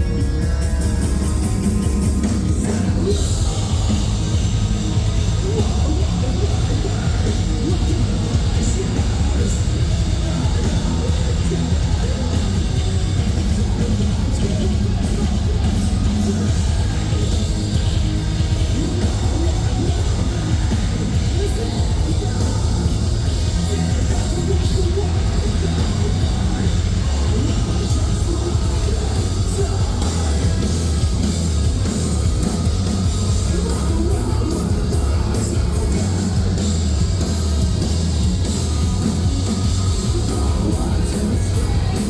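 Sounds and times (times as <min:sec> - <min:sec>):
bass guitar: 0:00.0 - 0:42.0
drums with cymbals: 0:00.0 - 0:42.0
heavy distorted guitars: 0:00.0 - 0:42.0.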